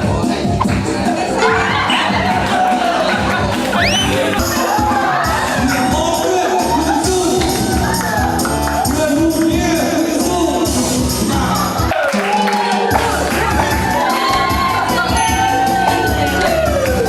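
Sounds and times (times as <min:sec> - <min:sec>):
backing track with steady beat: 0:00.0 - 0:17.0.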